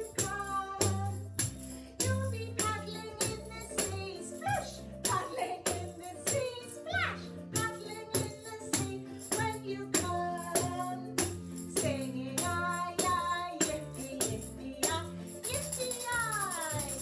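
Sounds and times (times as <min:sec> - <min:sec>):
tambourine hits: 0:00.0 - 0:17.0
woman singing: 0:00.0 - 0:17.0.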